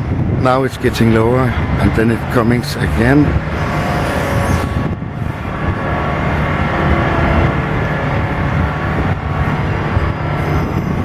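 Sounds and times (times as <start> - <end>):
low droning hum: 0.0 - 11.0
low rumble: 0.0 - 11.0
sustained tones: 0.0 - 11.0.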